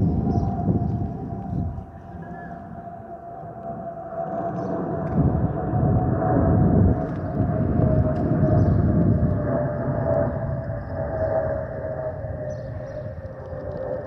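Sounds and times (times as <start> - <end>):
low jet rumble: 0.0 - 14.0.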